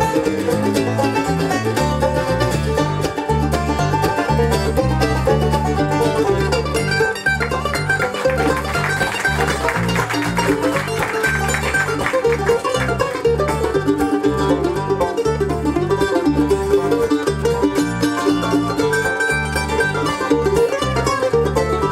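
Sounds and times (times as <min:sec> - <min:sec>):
acoustic guitar: 0:00.0 - 0:21.9
banjo picking: 0:00.0 - 0:21.9
mandolin picking: 0:00.0 - 0:21.9
walking bass line: 0:00.0 - 0:21.9.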